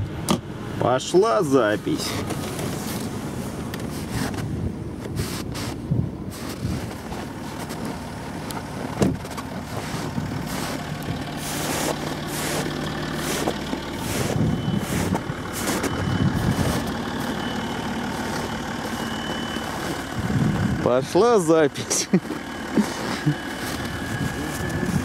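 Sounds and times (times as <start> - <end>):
vehicle engine idling: 0.0 - 25.0
footsteps crunching through snow: 1.9 - 20.7, 21.8 - 25.0.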